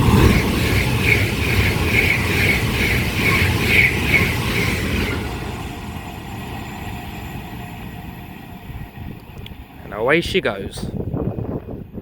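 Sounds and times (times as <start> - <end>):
train wheels beating: 0.0 - 10.2
electric train passing at speed: 0.0 - 12.0.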